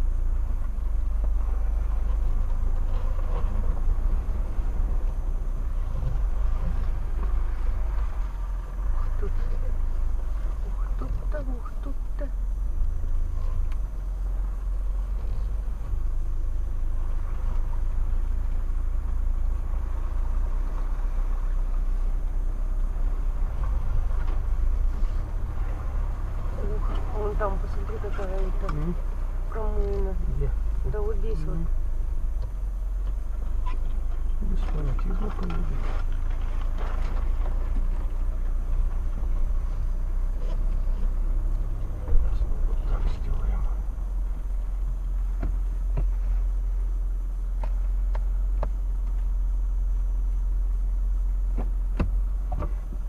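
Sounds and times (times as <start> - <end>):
engine and drivetrain rumble: 0.0 - 53.0
tyre and road noise: 0.0 - 53.0.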